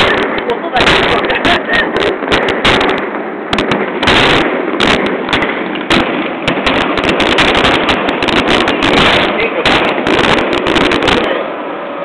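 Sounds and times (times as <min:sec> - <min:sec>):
fireworks bangs and crackling: 0:00.0 - 0:11.7.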